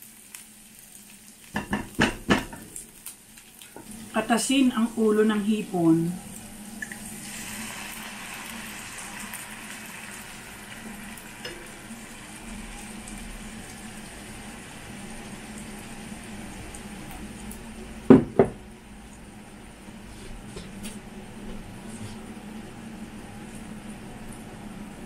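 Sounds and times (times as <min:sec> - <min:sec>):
shrimp sizzling in a frying pan: 0:00.0 - 0:25.0.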